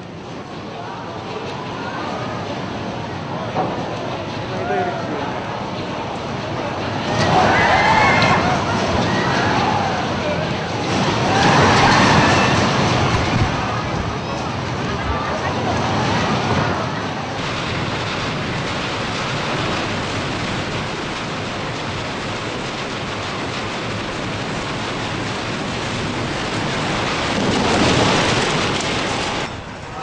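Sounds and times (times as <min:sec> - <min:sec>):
earthquake shaking rushing noise: 0:02.5 - 0:30.0.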